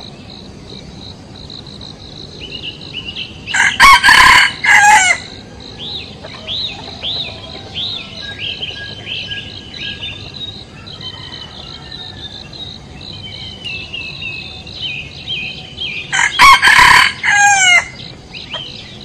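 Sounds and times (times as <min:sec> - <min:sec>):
small birds chirping: 0:00.0 - 0:03.8, 0:05.2 - 0:16.5, 0:17.5 - 0:19.0
loud long bird call: 0:02.4 - 0:19.0.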